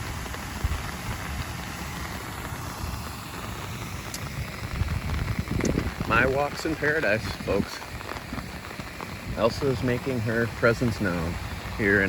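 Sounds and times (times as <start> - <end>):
faint steady hiss: 0.0 - 12.0
wind buffeting microphone: 0.0 - 12.0.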